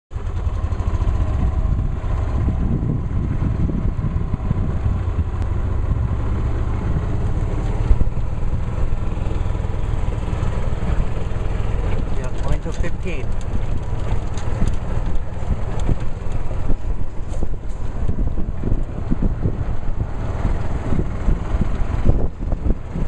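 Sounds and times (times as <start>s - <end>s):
golf cart motor rumbling: 0.1s - 23.0s.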